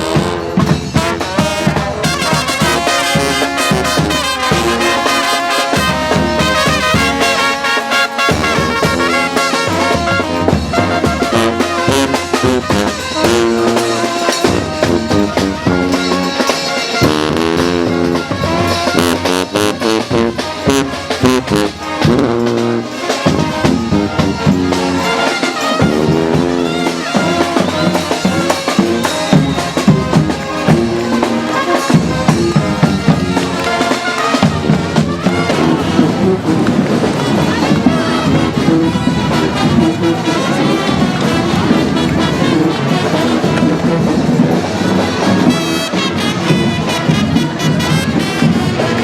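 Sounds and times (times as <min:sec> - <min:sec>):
brass band playing: 0:00.0 - 0:49.0
drums: 0:00.0 - 0:49.0
horns: 0:00.0 - 0:49.0.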